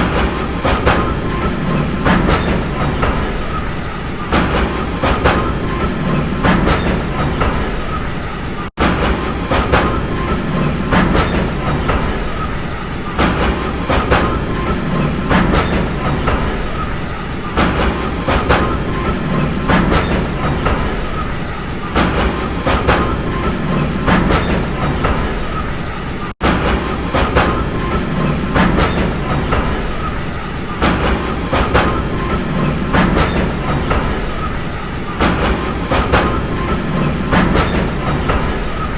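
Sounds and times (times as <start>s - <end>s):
train rumbling: 0.0s - 38.9s
wheels clacking over rail joints: 0.0s - 38.9s.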